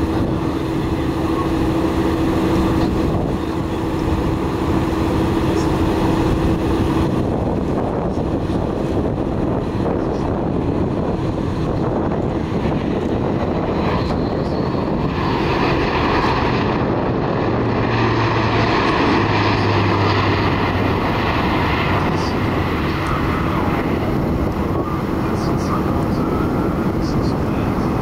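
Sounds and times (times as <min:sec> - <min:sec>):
low propeller hum: 0:00.0 - 0:28.0
turboprop aircraft drone: 0:00.0 - 0:28.0.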